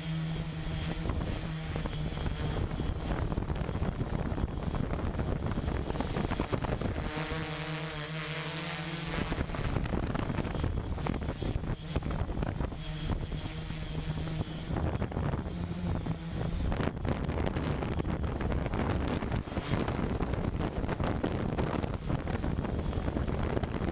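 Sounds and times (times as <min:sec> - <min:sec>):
thin high whine: 0:00.0 - 0:23.9
wavering hum: 0:00.0 - 0:23.9.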